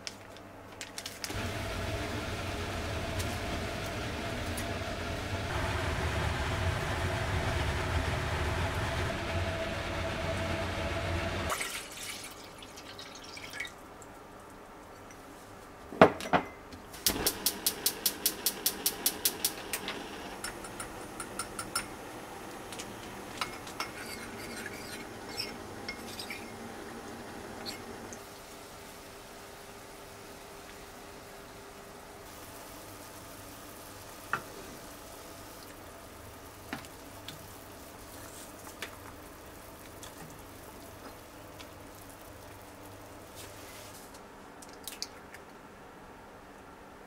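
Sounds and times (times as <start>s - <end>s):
pot boiling and bubbling: 1.2s - 14.9s, 17.0s - 44.0s.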